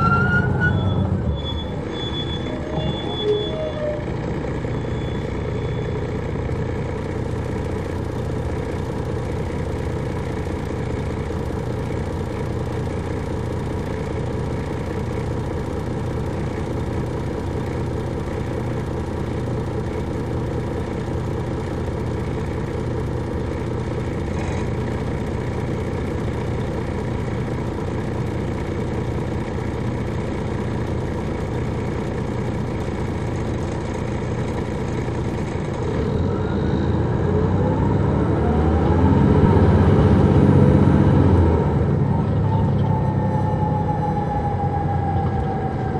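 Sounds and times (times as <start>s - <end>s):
diesel bus engine running: 0.0s - 45.9s.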